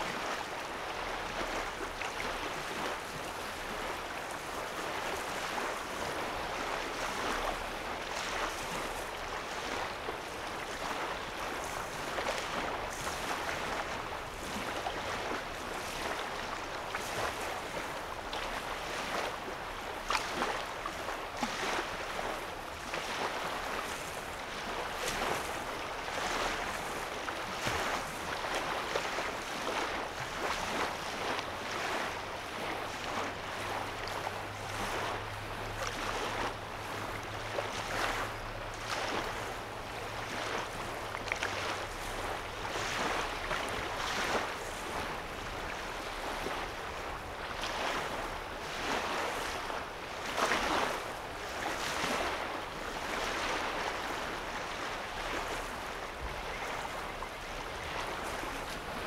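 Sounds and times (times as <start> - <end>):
small waves lapping: 0.0 - 59.0.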